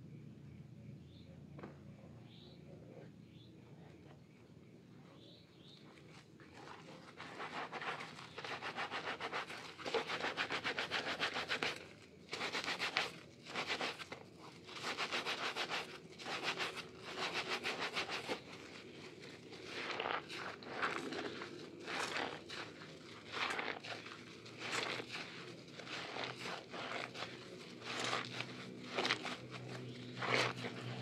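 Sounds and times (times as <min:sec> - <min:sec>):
sponge squelching in soap lather: 0:05.9 - 0:31.0.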